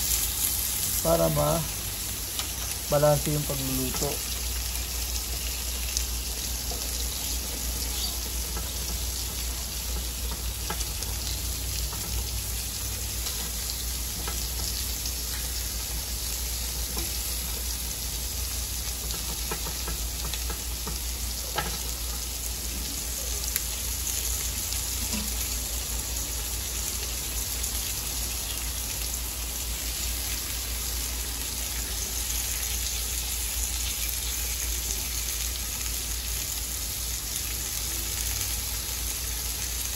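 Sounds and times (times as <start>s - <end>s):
chicken sizzling on grill: 0.0s - 39.9s.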